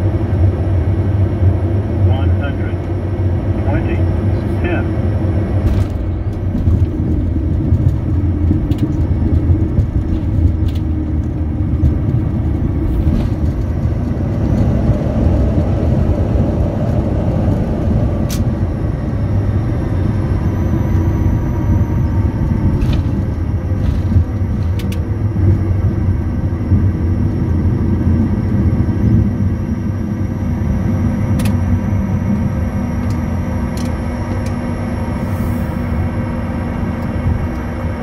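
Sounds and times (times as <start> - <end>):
faint whine: 0.0 - 38.0
jet engines idling rumble: 0.0 - 38.0.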